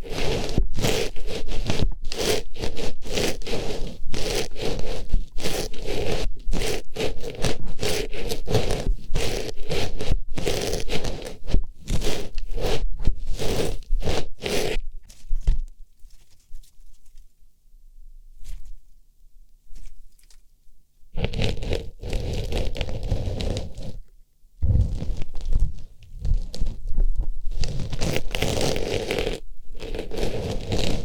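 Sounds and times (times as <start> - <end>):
scraping and rustling against ear: 0.0 - 17.4, 18.3 - 19.0, 19.6 - 20.6, 21.2 - 31.0.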